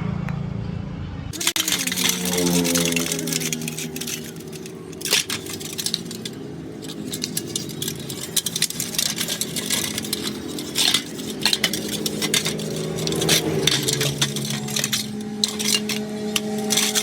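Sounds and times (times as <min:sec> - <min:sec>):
metal tools clinking: 0:01.3 - 0:17.0.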